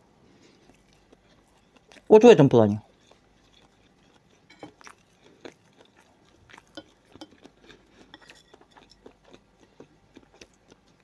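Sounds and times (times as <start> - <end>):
chewing and mouth clicks: 0.3 - 2.1, 2.8 - 11.0.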